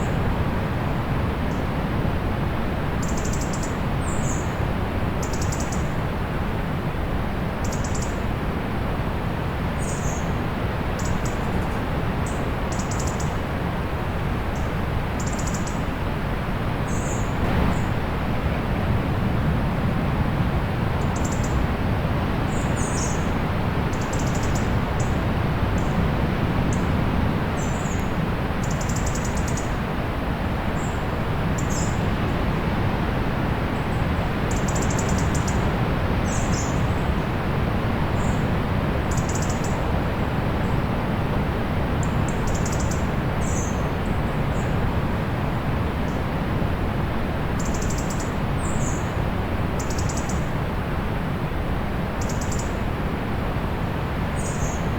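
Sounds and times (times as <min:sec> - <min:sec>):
distant sea surf: 0:08.2 - 0:54.9.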